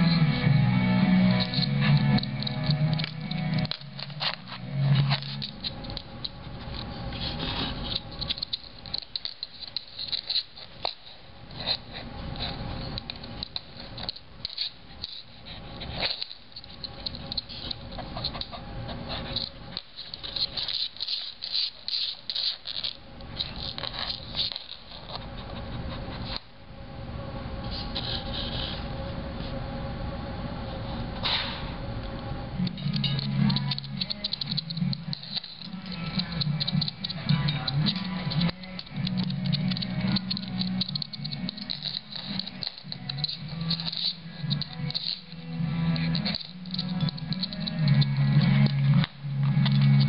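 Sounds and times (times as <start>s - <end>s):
dog claws scratching on wood floor: 1.3s - 26.5s, 27.7s - 28.9s, 32.8s - 50.0s.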